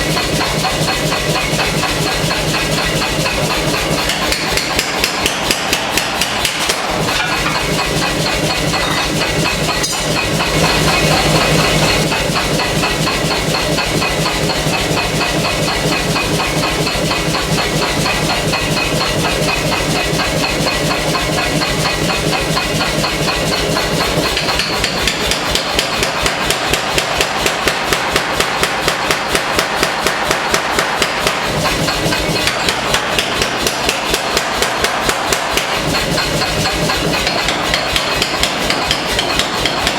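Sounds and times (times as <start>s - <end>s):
machine running: 0.0s - 39.9s
power hammer pounding hot steel: 0.0s - 39.9s.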